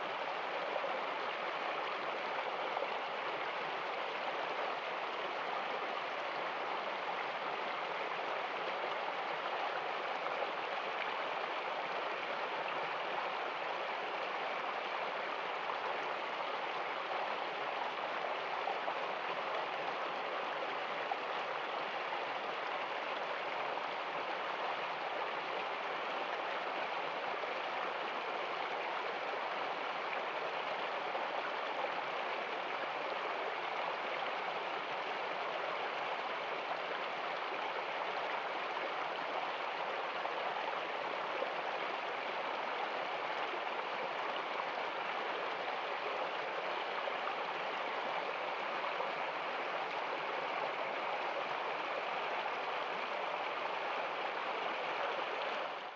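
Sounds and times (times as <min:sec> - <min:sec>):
stream flowing over rocks: 0:00.0 - 0:55.9.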